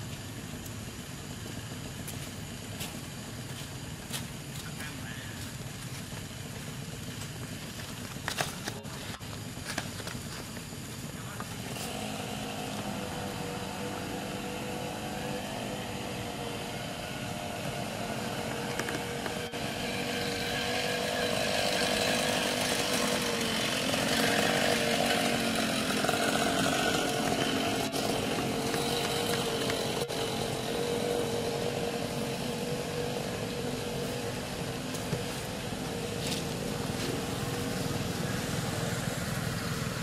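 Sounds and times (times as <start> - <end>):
small engine running: 0.0 - 40.0.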